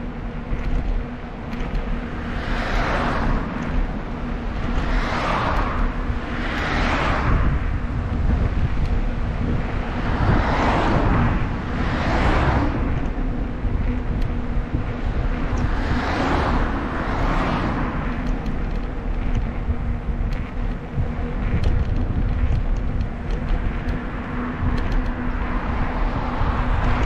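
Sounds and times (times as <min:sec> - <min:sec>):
motor vehicles passing: 0:00.0 - 0:27.0
wind rumbling on microphone: 0:00.0 - 0:27.0.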